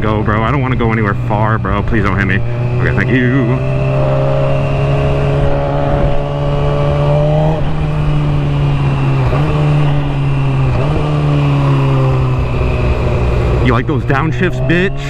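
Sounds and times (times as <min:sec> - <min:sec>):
motorcycle engine: 0:00.0 - 0:15.0
wind and road noise: 0:00.0 - 0:15.0.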